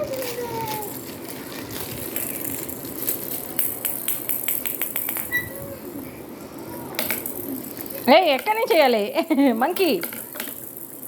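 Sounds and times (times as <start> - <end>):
plastic toy clicks and rattles: 0.0 - 5.5, 6.9 - 11.0.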